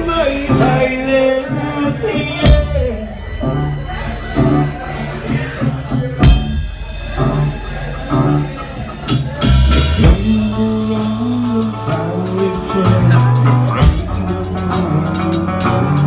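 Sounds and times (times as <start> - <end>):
drum kit: 0.0 - 16.0
live band playing: 0.0 - 16.0.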